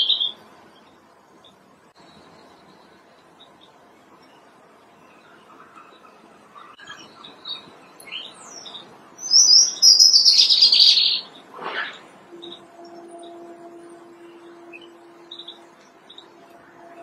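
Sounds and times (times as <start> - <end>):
robin singing: 0.0 - 17.0.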